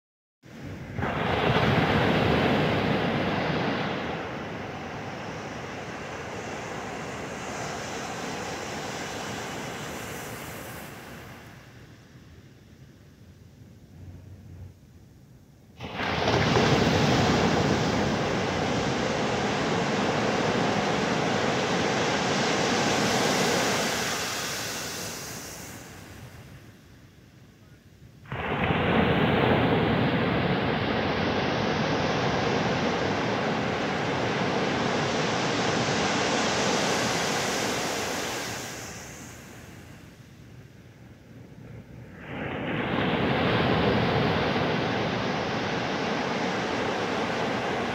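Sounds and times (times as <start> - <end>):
waves washing up a beach: 0.5 - 14.6, 15.6 - 47.9.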